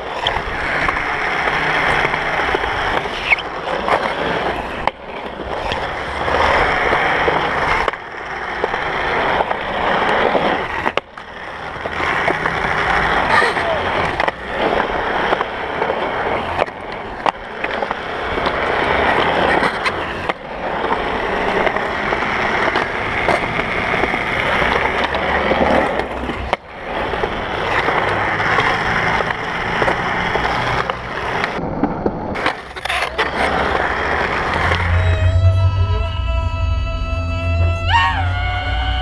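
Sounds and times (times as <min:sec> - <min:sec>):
skateboard clacking on ground: 0:00.0 - 0:35.3
skateboard wheels rolling on concrete: 0:00.0 - 0:39.0.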